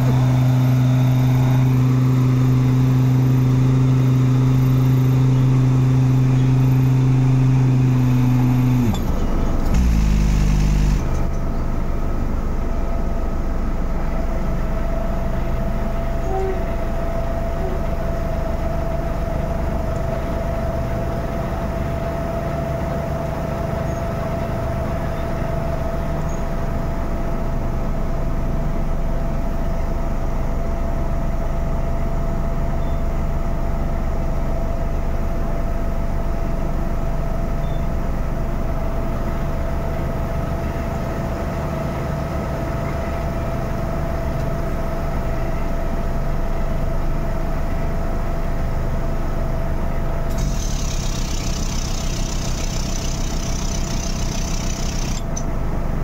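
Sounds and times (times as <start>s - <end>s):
deep engine rumble: 0.0s - 51.2s
constant machine whine: 0.0s - 56.0s.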